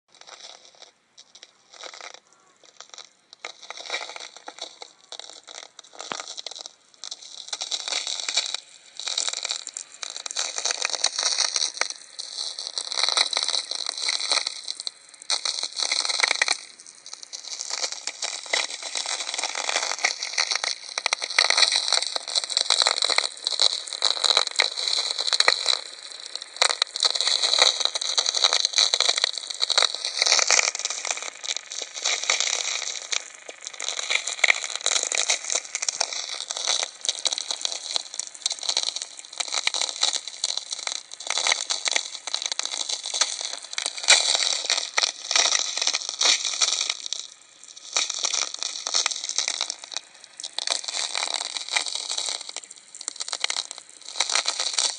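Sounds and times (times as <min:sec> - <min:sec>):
radio static crackle: 0:00.0 - 0:54.9.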